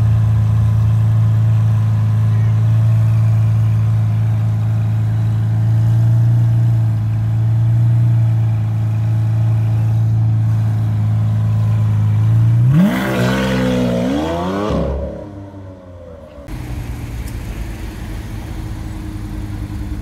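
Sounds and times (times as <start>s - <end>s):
sports car engine idling and revving: 0.0s - 20.0s.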